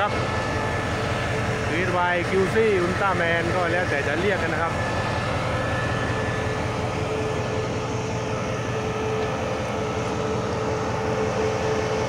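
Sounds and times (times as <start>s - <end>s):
diesel locomotive idling: 0.0s - 12.0s
steady whine: 0.0s - 12.0s.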